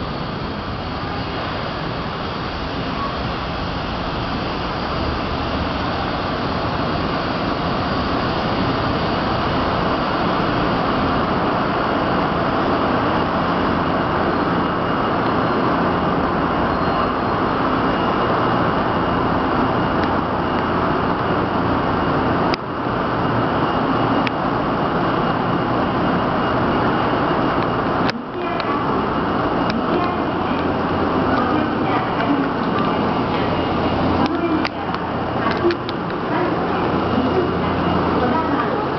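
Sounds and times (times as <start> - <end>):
faint high steady tone: 0.0 - 38.9
train mechanical rumble and hiss: 0.0 - 38.9.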